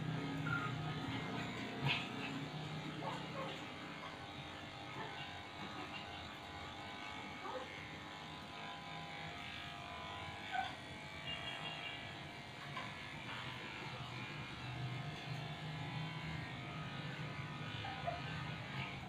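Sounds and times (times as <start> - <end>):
pet hair clipper running: 0.0 - 19.0.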